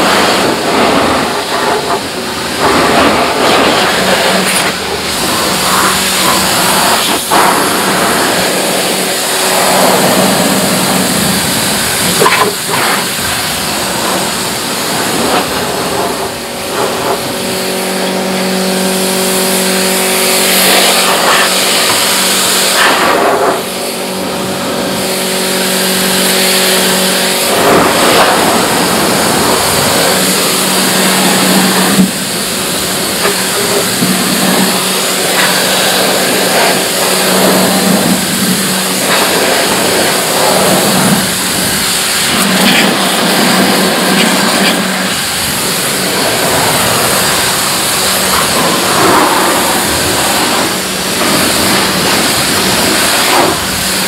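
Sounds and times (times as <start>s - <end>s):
pressure washer jet hissing: 0.0s - 54.0s
pump motor humming: 0.0s - 54.0s.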